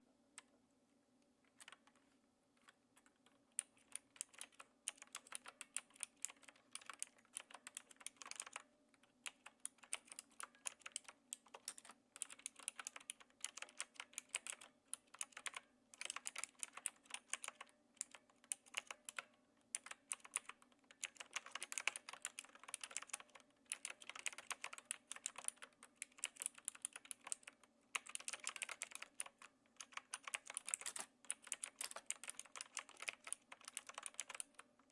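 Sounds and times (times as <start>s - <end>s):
mechanical keyboard typing: 1.5s - 34.9s.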